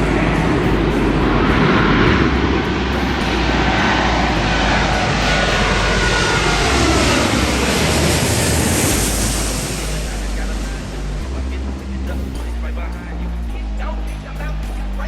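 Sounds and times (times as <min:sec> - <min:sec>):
jet roar passing: 0:00.0 - 0:14.8
jet engine whine: 0:00.0 - 0:15.0.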